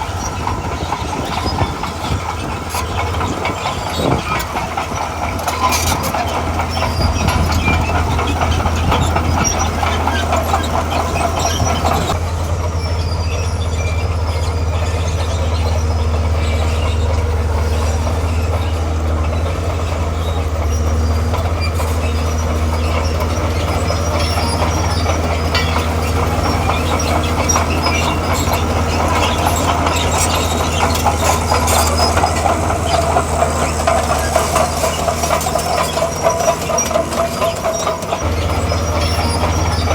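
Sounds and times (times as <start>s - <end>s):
diesel engine running: 0.0s - 39.9s
steel tracks clanking and squealing: 0.0s - 39.9s.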